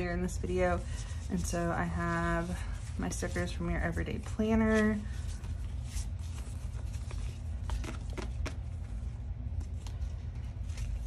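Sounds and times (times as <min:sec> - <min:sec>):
steady low hum: 0:00.0 - 0:11.0
paper sheets rustling: 0:00.7 - 0:11.0.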